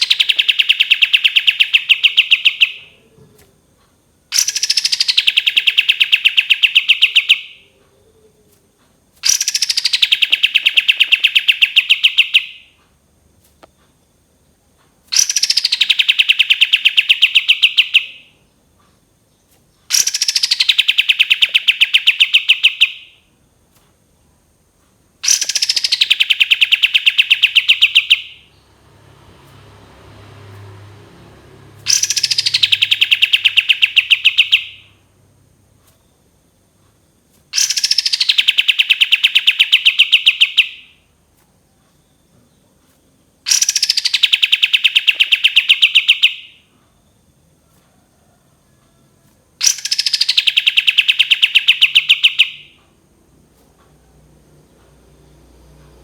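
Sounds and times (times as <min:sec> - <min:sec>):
songbird singing: 0:00.0 - 0:12.8, 0:13.6 - 0:23.3, 0:25.2 - 0:36.7, 0:37.5 - 0:49.0, 0:49.6 - 0:56.0.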